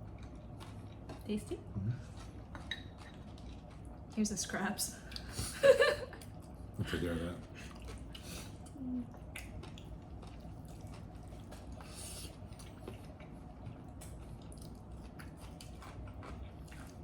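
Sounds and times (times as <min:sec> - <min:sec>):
wet chewing: 0:00.0 - 0:04.2, 0:07.4 - 0:17.0.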